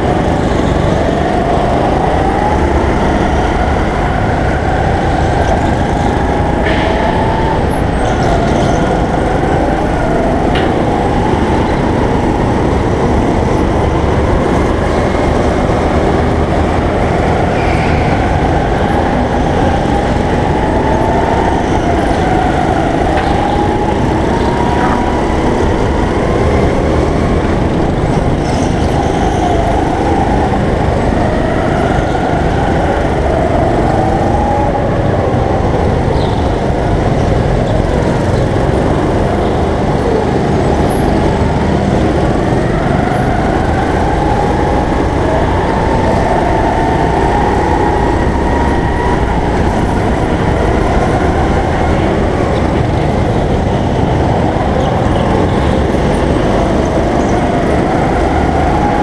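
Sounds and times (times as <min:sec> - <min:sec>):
go-kart motor revving: 0:00.0 - 0:59.0.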